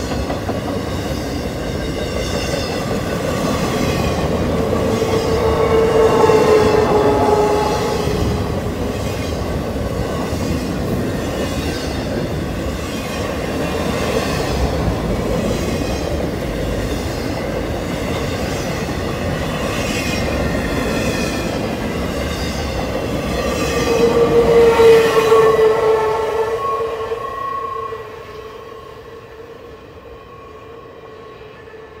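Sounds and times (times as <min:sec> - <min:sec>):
train wheels rumbling and rattling: 0:00.0 - 0:26.0.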